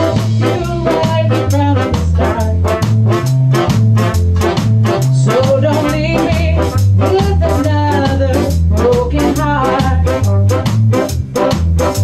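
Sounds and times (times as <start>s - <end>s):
offbeat guitar chops: 0.0s - 12.0s
ska band playing: 0.0s - 12.0s
steady bass line: 0.0s - 12.0s
wavering lead melody: 0.0s - 12.0s.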